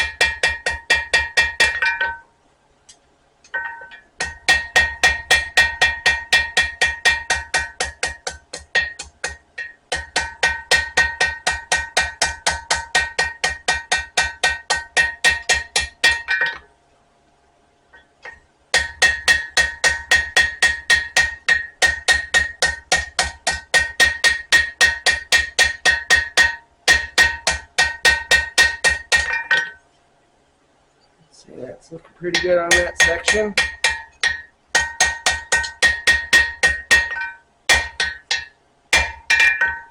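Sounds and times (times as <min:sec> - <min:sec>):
hammer striking steel on anvil: 0:00.0 - 0:02.3, 0:03.5 - 0:16.7, 0:18.0 - 0:29.8, 0:32.2 - 0:39.9.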